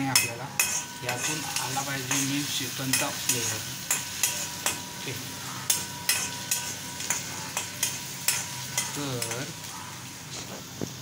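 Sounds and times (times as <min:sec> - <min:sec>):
onion sizzling in oil: 0:00.0 - 0:11.0
spoon scraping a wok: 0:00.1 - 0:09.7.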